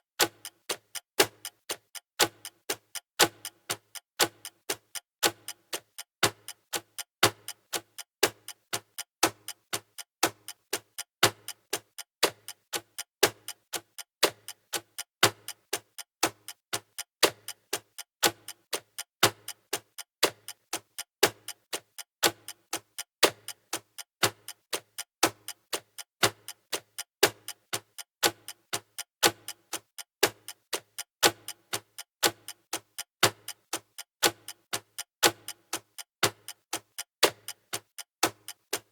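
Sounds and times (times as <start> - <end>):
clock ticking: 0.2 - 38.9.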